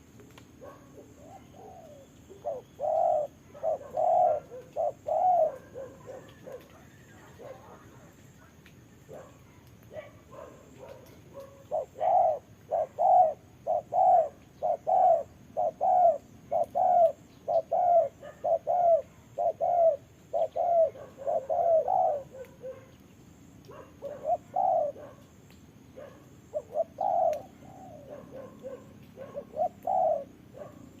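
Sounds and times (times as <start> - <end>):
doves cooing: 0.6 - 23.0, 23.6 - 25.3, 26.0 - 31.0.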